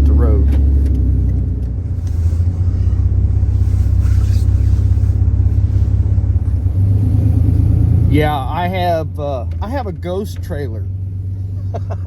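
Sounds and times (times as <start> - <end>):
diesel pickup engine rumble: 0.0 - 12.0.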